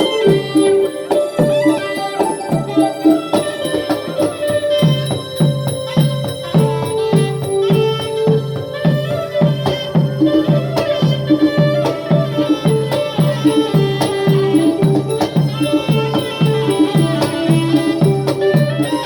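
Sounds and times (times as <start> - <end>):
pitched drum strokes: 0.0 - 19.0
sharp clacking percussion: 0.0 - 19.0
sustained melodic line: 0.0 - 19.0.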